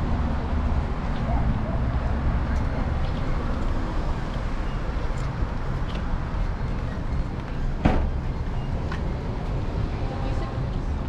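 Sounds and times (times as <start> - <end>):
wind and scooter rolling rumble: 0.0 - 11.0.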